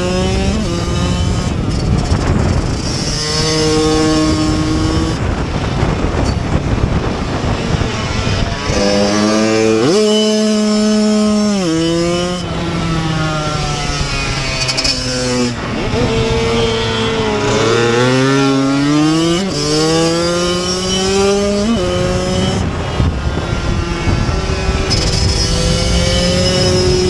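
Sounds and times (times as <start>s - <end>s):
motorcycle engine racing: 0.0s - 27.0s.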